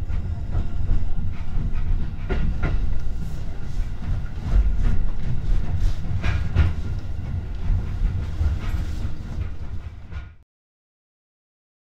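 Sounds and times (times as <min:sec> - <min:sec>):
train rumbling: 0:00.0 - 0:10.4.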